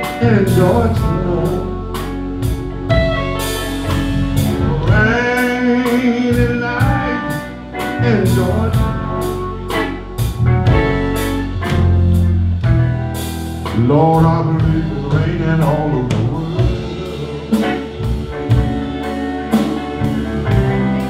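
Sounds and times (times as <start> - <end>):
person singing: 0.0 - 2.7, 3.4 - 10.4, 13.6 - 21.0
blues band playing: 0.0 - 21.0.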